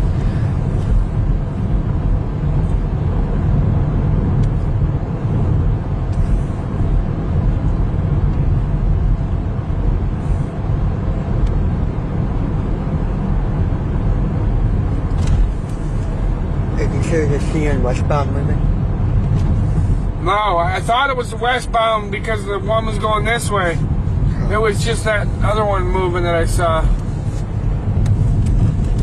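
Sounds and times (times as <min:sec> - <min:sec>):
low vehicle rumble: 0:00.0 - 0:29.0.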